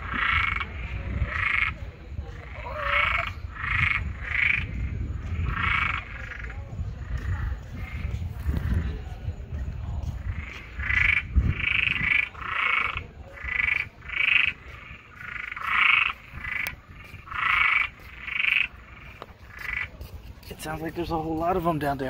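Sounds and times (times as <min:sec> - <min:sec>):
frogs croaking: 0:00.0 - 0:21.6.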